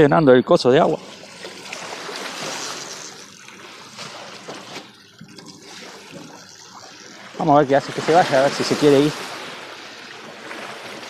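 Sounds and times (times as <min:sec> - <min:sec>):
water trickling: 0:00.7 - 0:11.0.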